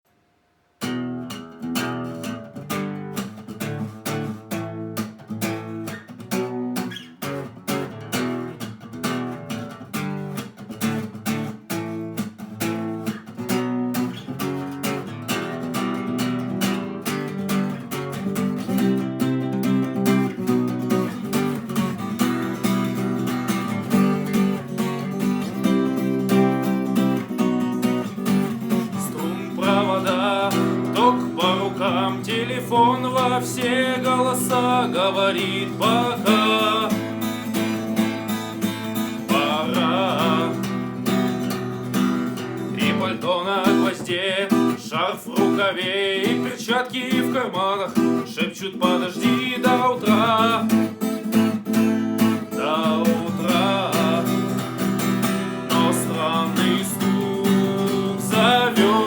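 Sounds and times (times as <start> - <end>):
acoustic guitar strummed and picked: 0.8 - 59.0.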